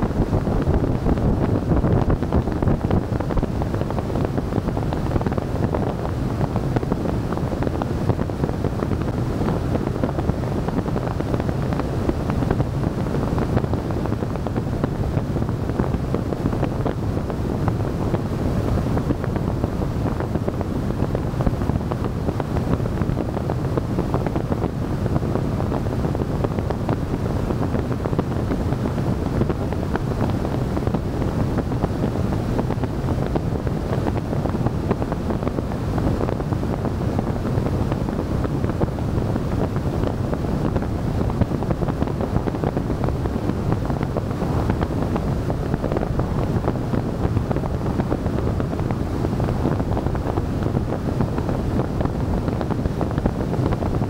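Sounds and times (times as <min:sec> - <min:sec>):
low road rumble: 0:00.0 - 0:54.0
wind noise on microphone: 0:00.0 - 0:54.0.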